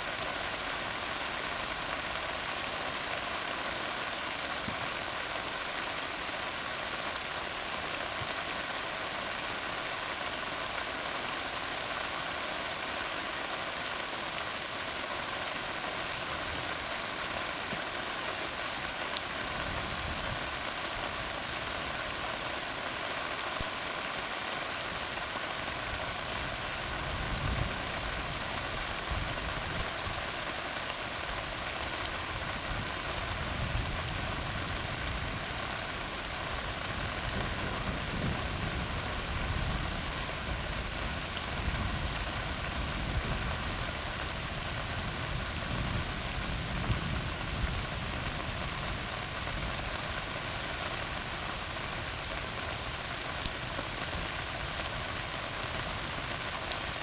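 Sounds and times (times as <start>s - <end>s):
rain on a road: 0.0s - 57.0s.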